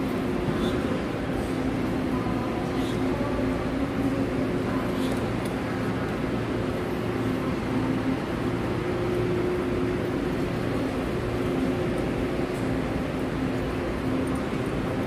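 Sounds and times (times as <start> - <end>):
train machine hum: 0.0 - 15.0.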